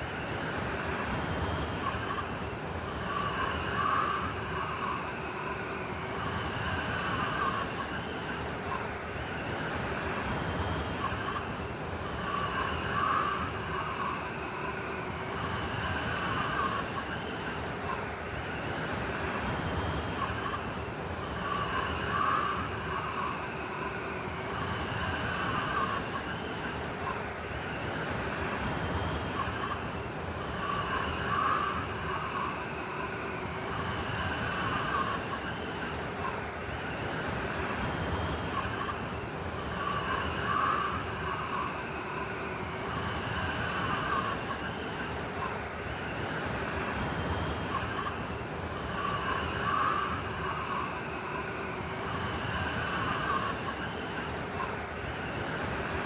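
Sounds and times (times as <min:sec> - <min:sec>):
blizzard wind howling: 0:00.0 - 0:56.0.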